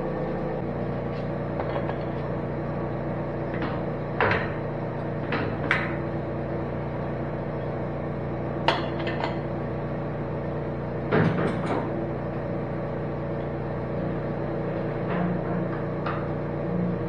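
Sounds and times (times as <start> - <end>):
boring mill humming: 0.0 - 17.0.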